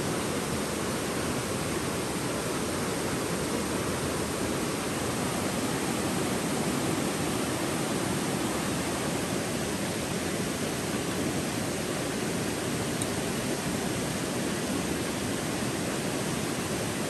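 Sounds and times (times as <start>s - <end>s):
stream rushing over stones: 0.0s - 17.0s.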